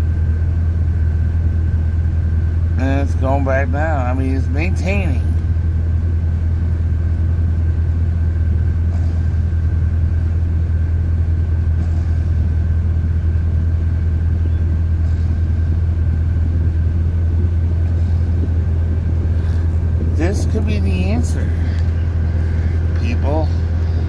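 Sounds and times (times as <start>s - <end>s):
engine idling: 0.0s - 24.0s
thin steady whine: 0.0s - 24.0s.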